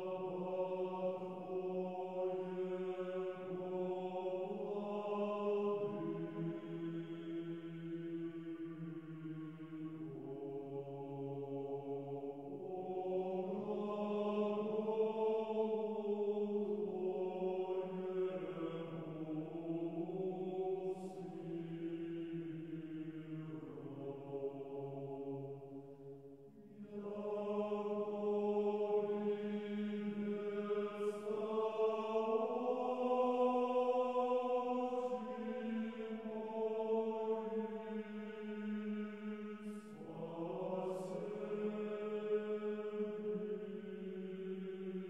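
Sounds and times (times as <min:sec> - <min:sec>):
slow vocal chant: 0:00.0 - 0:45.0.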